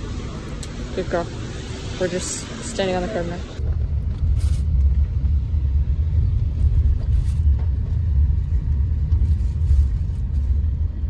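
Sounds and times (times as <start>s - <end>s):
car road rumble inside cabin: 0.0s - 11.0s.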